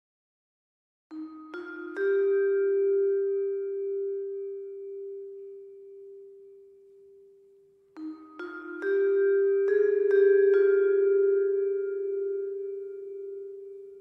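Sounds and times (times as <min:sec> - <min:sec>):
vibraphone-like mallet percussion: 0:01.1 - 0:14.0.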